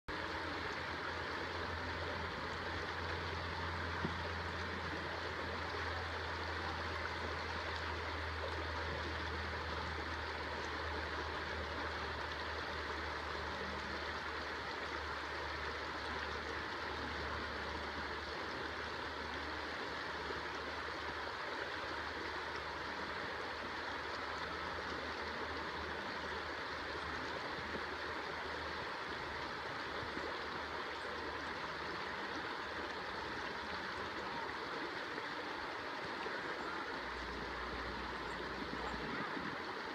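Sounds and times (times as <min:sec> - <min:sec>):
shallow river flowing: 0:00.1 - 0:39.9.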